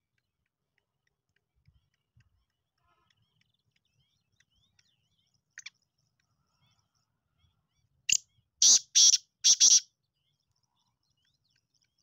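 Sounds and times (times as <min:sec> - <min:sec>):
bird chirps and twittering: 0:01.6 - 0:12.0.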